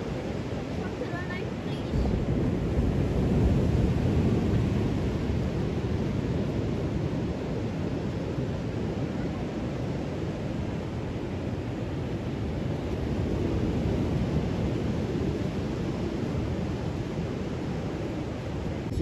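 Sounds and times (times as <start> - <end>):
ocean waves rushing: 0.0 - 19.0.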